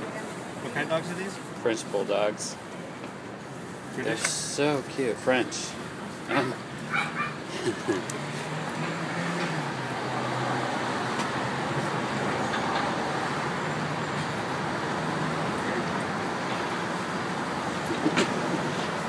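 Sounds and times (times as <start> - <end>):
street traffic noise: 0.0 - 19.0
vehicle engines humming: 0.0 - 19.0.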